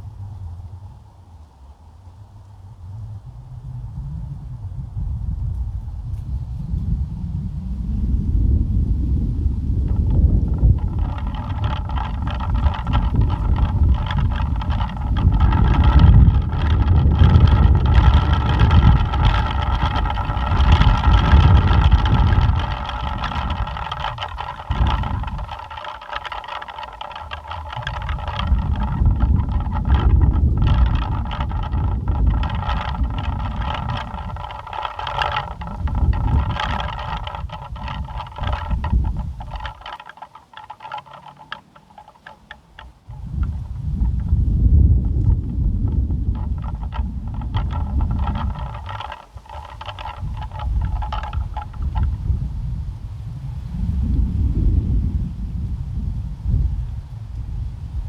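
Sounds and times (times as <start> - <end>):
pinwheels whirring in wind: 0.0 - 58.0
wind buffeting microphone: 0.0 - 58.0.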